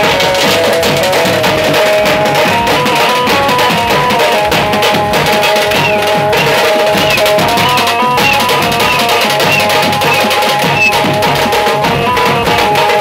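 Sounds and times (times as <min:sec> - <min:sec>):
fast bass drum and snare drumming: 0:00.0 - 0:13.0.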